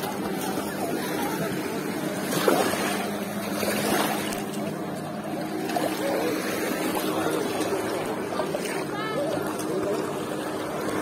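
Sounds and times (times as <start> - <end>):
distant motorboat engine: 0.0 - 11.0
faint voices: 0.0 - 11.0
shallow sea water washing: 0.0 - 11.0.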